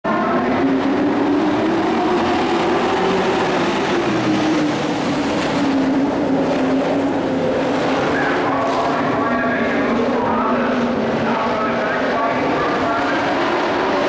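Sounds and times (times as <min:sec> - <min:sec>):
racing truck engines droning: 0:00.0 - 0:14.0.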